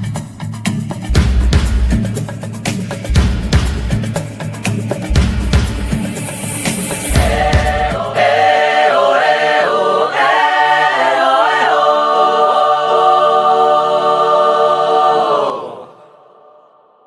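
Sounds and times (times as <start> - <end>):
music with choir singing: 0.0 - 17.0.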